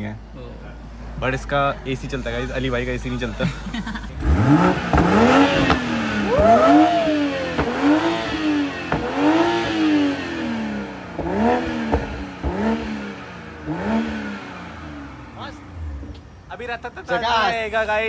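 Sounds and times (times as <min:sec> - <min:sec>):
car engine revving: 0:01.8 - 0:16.4.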